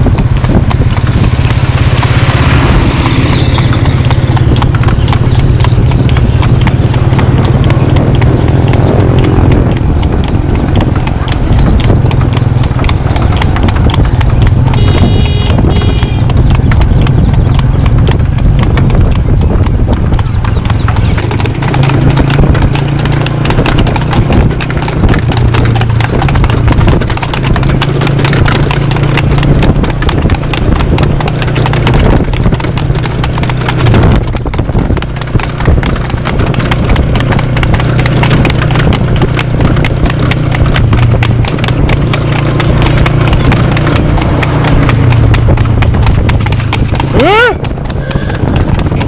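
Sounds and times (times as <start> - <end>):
horse hooves clip-clopping on pavement: 0.0 - 49.0.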